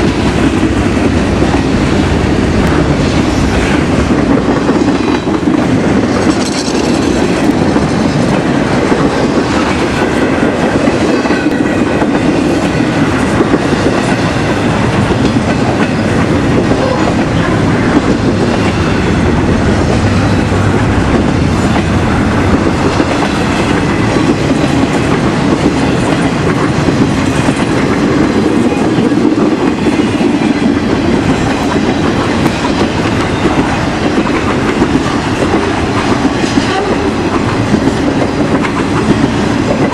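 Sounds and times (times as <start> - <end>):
railroad cars rolling past: 0.0 - 39.9
wheels clacking over rail joints: 0.0 - 39.9.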